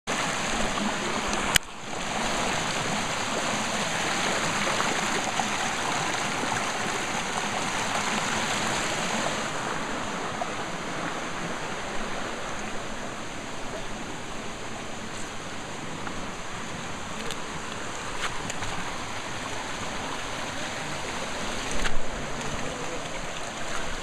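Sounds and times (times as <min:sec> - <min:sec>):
stream splashing over rocks: 0:00.1 - 0:24.0.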